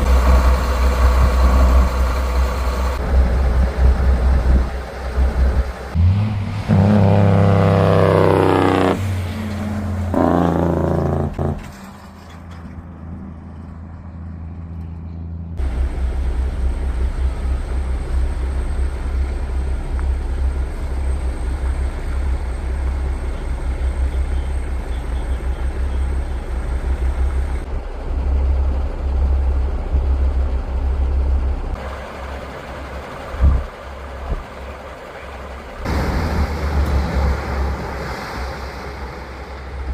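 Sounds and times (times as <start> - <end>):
truck engine accelerating: 0.0 - 39.9.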